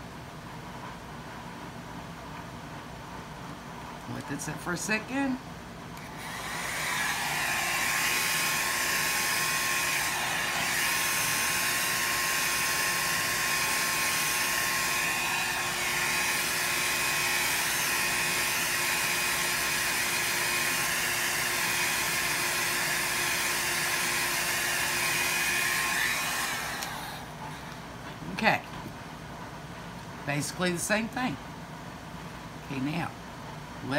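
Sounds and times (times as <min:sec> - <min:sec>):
electric dryer whine and airflow: 0:00.0 - 0:33.9.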